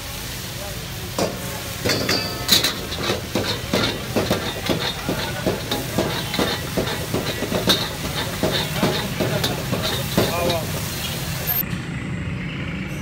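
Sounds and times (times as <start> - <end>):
meat sizzling: 1.0 - 11.6
metal utensils clanking against wok: 1.1 - 11.6.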